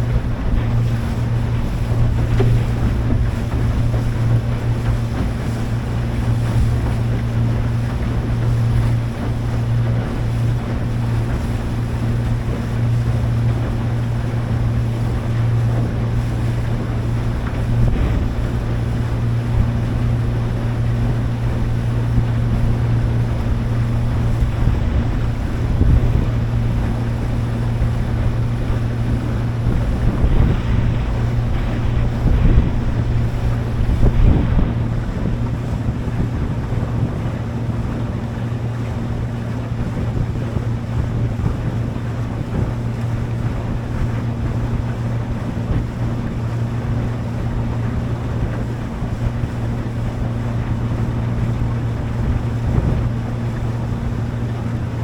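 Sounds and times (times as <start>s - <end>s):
motorboat engine droning: 0.0s - 55.0s
water rushing past: 0.0s - 55.0s
wind on microphone: 0.0s - 55.0s.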